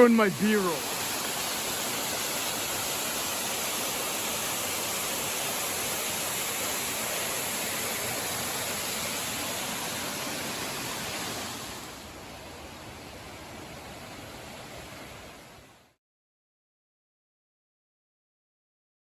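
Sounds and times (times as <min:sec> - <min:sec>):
waterfall rushing: 0:00.0 - 0:15.7.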